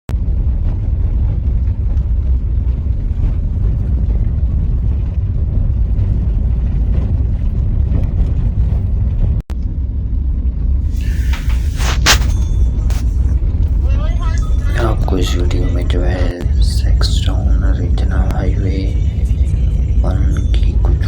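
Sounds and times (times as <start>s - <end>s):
vehicle road and engine noise: 0.2s - 21.0s.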